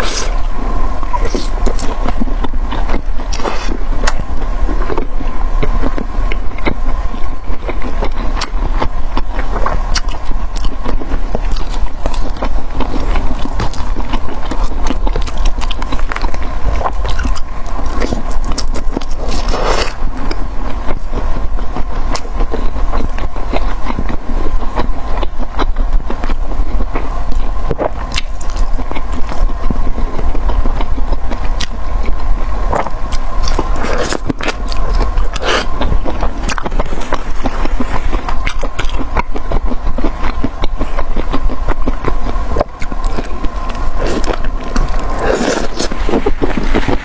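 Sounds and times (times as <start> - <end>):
crunchy chewing of fried food: 0.0 - 47.0
steady low hum: 0.0 - 47.0.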